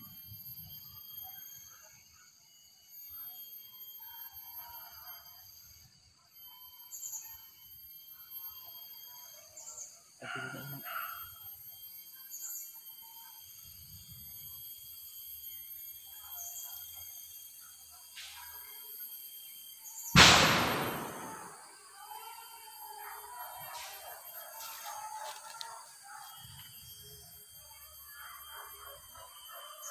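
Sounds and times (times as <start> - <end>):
high-pitched insect drone: 0.0 - 29.9.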